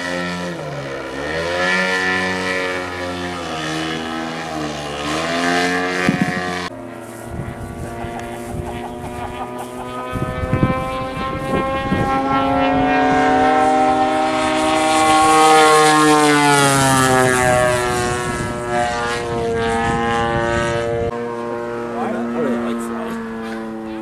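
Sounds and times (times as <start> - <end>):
model airplane flying past: 0.0 - 24.0.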